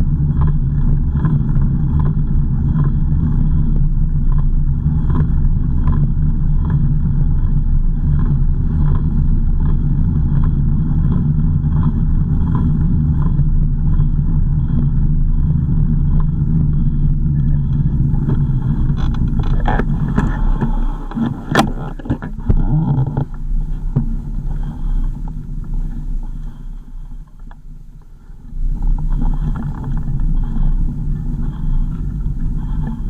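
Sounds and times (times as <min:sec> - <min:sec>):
car engine and road rumble: 0:00.0 - 0:33.0
faint regular tick: 0:00.2 - 0:07.4, 0:08.1 - 0:15.0, 0:15.7 - 0:16.8, 0:17.4 - 0:26.6, 0:27.2 - 0:33.0.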